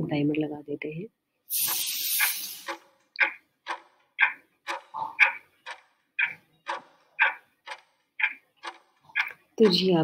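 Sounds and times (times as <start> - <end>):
ticking clock: 1.6 - 10.0.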